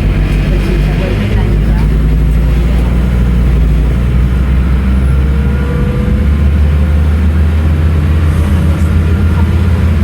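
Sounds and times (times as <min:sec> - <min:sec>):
bus diesel engine drone: 0:00.0 - 0:10.0.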